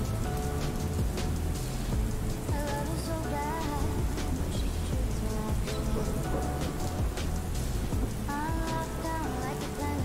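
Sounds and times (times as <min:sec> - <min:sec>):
quiet music with held notes: 0:00.0 - 0:10.0
steady rain: 0:00.0 - 0:10.0.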